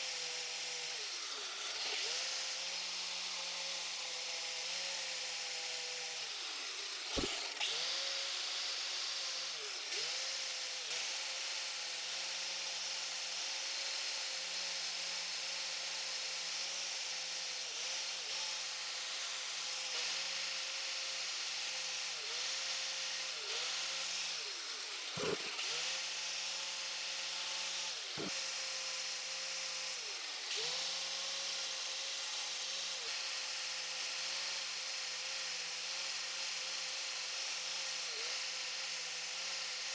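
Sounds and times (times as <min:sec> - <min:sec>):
angle grinder grinding steel: 0:00.0 - 0:14.3, 0:15.2 - 0:39.9.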